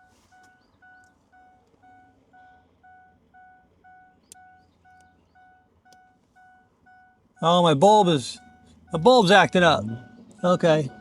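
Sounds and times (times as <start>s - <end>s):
faint electronic beeps: 0.0s - 7.6s, 8.2s - 11.0s.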